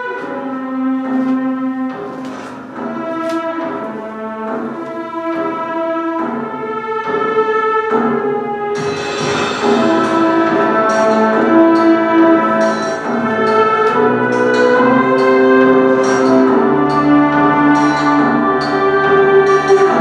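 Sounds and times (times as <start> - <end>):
orchestral music through speakers: 0.0 - 20.0.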